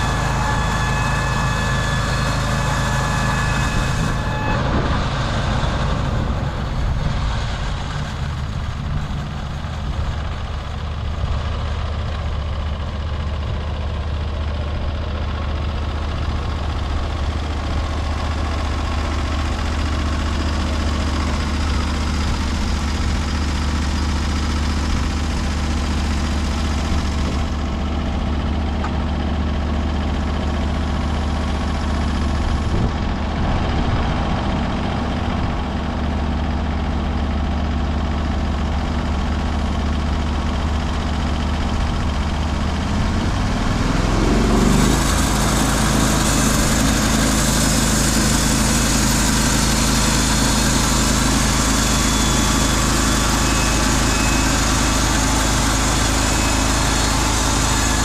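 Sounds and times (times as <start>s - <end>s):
gasoline engine running: 0.0s - 58.0s.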